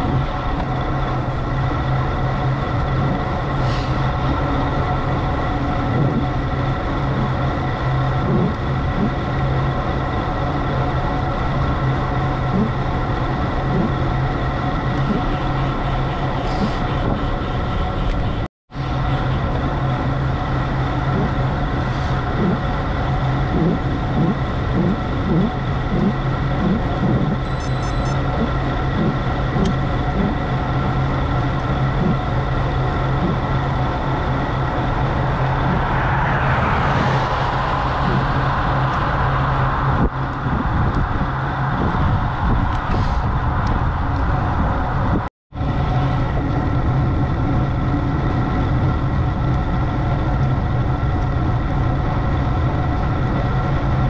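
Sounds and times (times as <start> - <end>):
constant low hum: 0.0 - 54.0
road and wind noise: 0.0 - 54.0.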